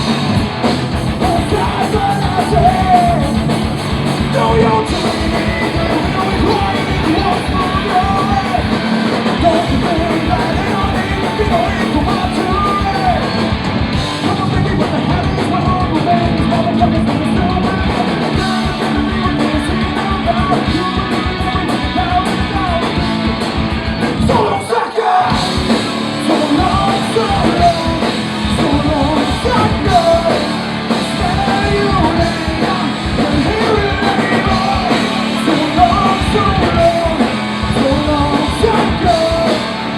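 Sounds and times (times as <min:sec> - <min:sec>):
punk rock band playing live: 0:00.0 - 0:39.9
singing and yelled vocals: 0:00.0 - 0:39.9.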